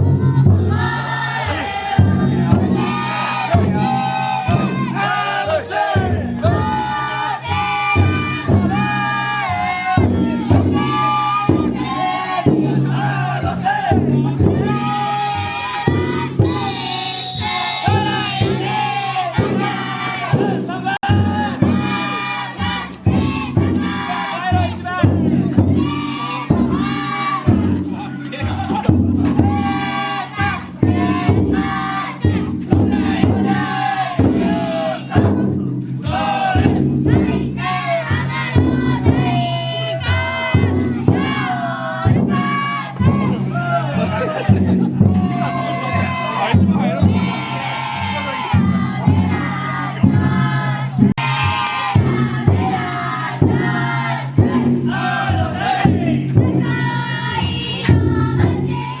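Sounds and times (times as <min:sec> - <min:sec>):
group shouting rhythmic chant: 0:00.0 - 0:59.0
taiko drum beating: 0:00.0 - 0:59.0.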